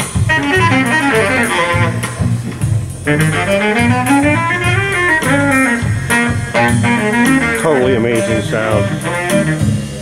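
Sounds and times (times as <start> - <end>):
bass line under a melody: 0.0 - 10.0
music over loudspeakers: 0.0 - 10.0.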